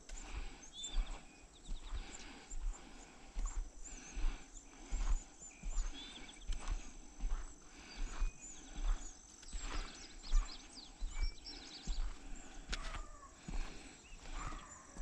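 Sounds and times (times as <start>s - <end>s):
birds chirping: 0.0s - 15.0s
footsteps on dirt track: 0.0s - 15.0s.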